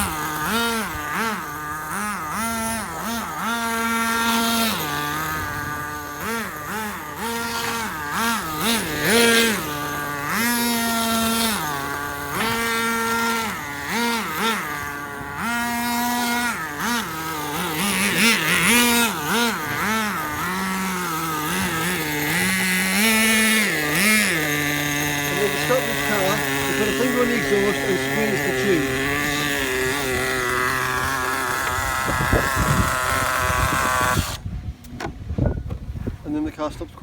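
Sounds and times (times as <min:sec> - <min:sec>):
model truck nitro engine revving: 0:00.0 - 0:34.5.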